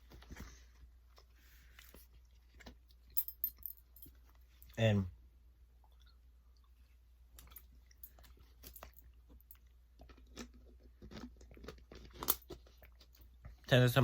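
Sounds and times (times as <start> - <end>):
faint chewing and crunching food: 0.0 - 14.0.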